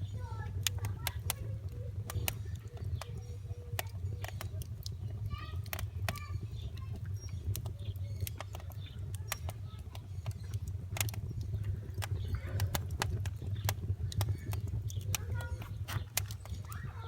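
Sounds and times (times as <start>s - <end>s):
steady low hum: 0.0s - 17.0s
wood fire crackling: 0.0s - 17.0s.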